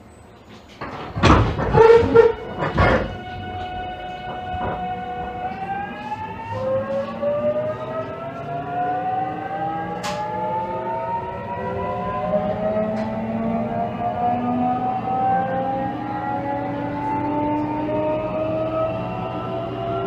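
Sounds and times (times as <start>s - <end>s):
electric train inverter whining: 0.0s - 20.0s.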